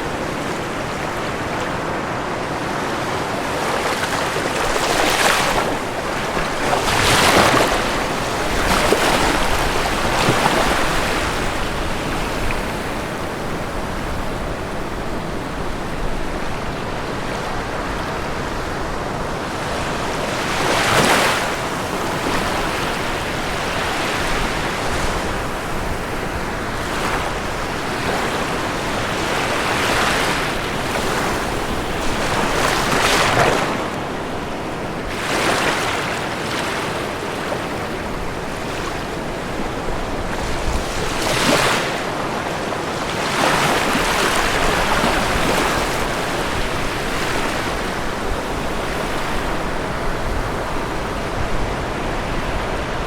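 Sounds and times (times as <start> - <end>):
ocean waves washing: 0.0 - 53.0
waves breaking: 0.0 - 53.0.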